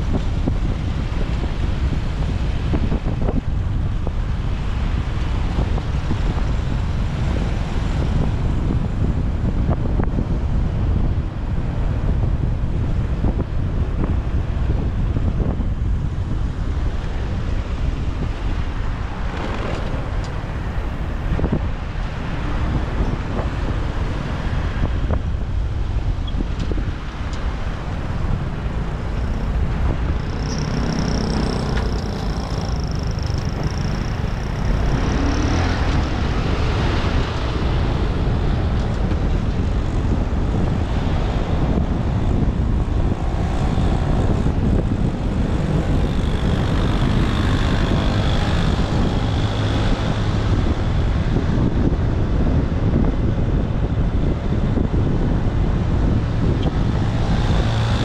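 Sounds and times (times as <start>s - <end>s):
motorbike engine and road rumble: 0.0s - 58.0s
wind buffeting microphone: 0.0s - 58.0s.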